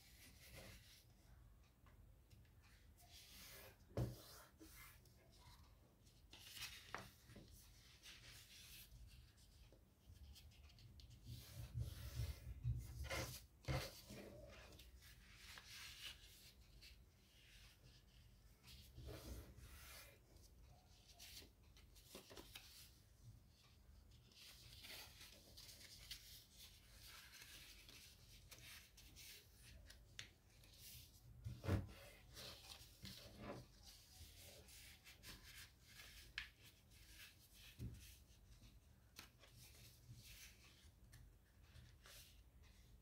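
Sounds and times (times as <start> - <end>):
paper rustling and folding: 2.6 - 23.0, 23.6 - 43.0.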